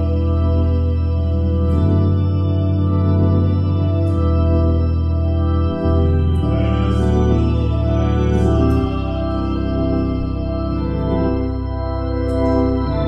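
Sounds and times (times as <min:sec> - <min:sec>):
organ bass pedal line: 0:00.0 - 0:13.0
organ chords: 0:00.0 - 0:13.0.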